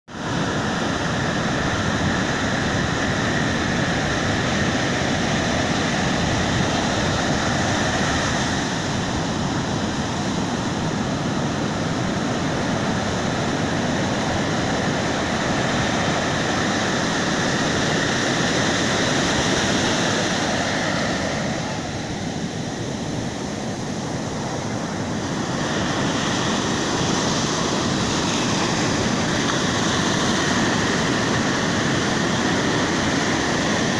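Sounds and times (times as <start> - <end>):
ocean waves washing onto beach: 0.1 - 33.9.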